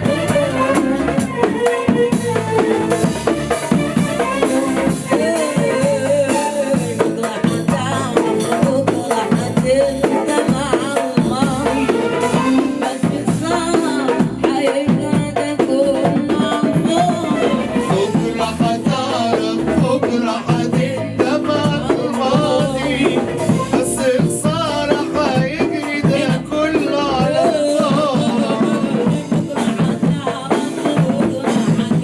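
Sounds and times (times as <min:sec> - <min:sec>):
drum kit beat: 0:00.0 - 0:32.0
ornamented melody line: 0:00.0 - 0:32.0.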